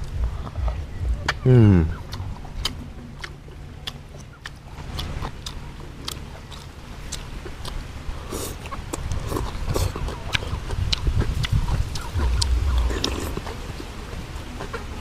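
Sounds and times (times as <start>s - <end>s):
low rumble: 0.0s - 15.0s
person chewing and slurping: 0.0s - 15.0s.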